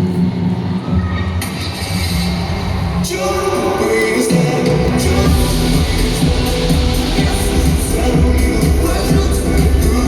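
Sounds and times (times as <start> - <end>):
pop music with dance beat: 0.0 - 10.0.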